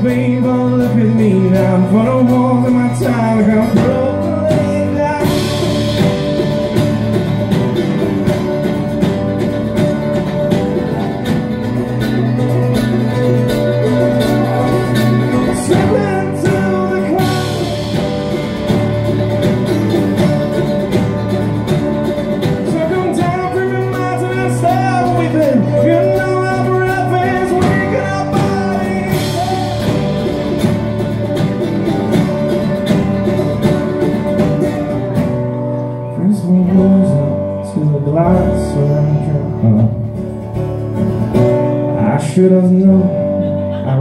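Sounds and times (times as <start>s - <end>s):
folk-rock band playing: 0.0s - 44.0s.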